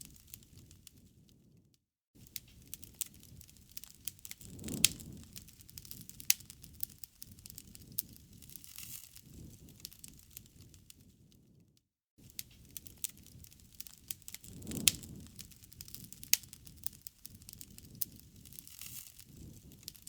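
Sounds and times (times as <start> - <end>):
wood fire crackling: 0.0 - 1.5, 2.2 - 11.6, 12.2 - 20.0
rumble of burning flames: 0.0 - 20.0.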